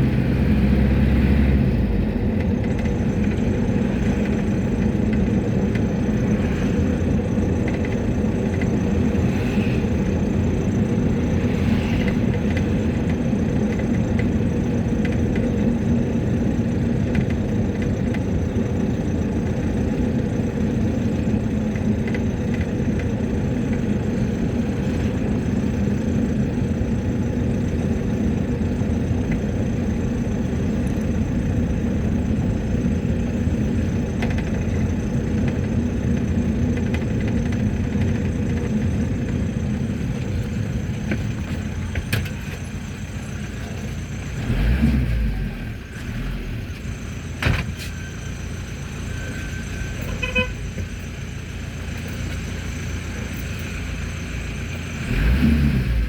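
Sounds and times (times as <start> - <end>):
engine and road hum: 0.0 - 56.0.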